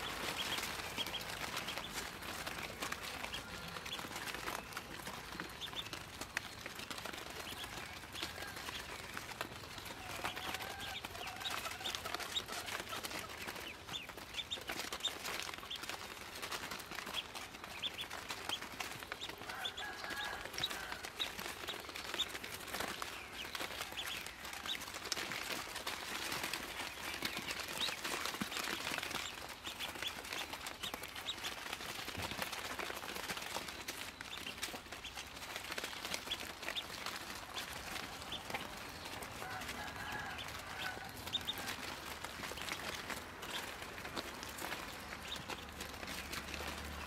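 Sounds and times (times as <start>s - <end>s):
ducklings peeping: 0.0s - 47.0s.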